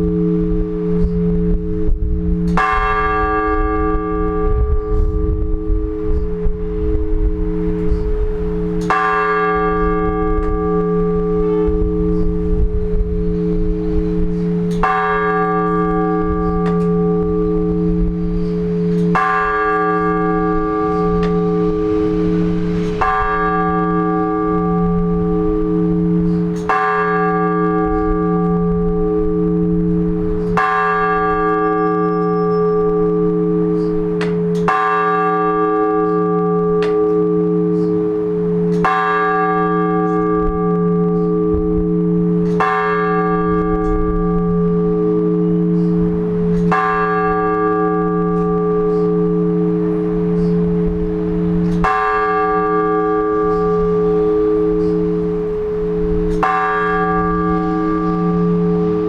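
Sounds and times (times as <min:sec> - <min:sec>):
large church bell tolling: 0:00.0 - 0:59.0.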